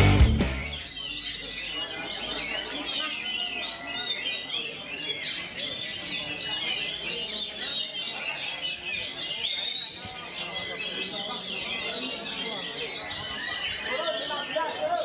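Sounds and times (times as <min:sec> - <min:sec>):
songbird singing rapid chirps: 0:00.0 - 0:15.0.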